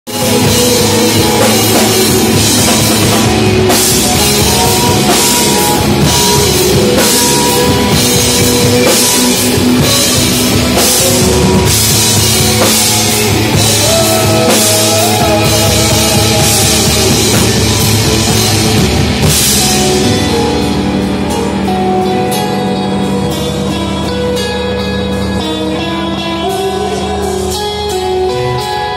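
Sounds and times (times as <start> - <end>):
drum kit: 0.1 - 28.9
electric guitars: 0.1 - 28.9.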